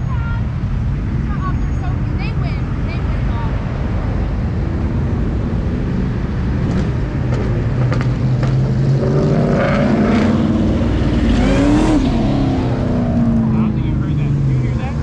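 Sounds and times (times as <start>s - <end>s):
car engines running: 0.0s - 15.0s
car engine revving: 0.8s - 15.0s.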